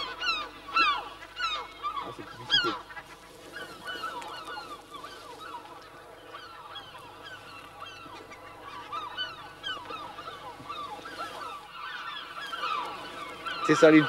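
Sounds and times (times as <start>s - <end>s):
seabird colony honking calls: 0.0s - 14.0s.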